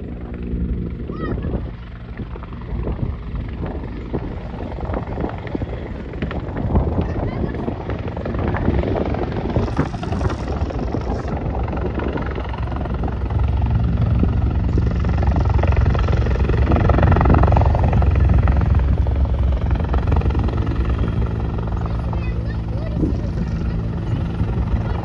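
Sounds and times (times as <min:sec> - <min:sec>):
helicopter flying low: 0:00.0 - 0:25.0.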